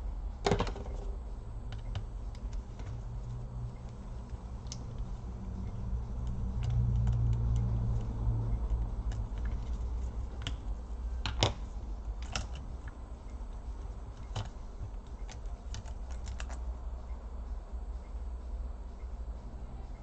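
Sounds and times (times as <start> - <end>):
low steady hum: 0.0 - 20.0
clicks and taps on laptop internals: 0.4 - 16.6.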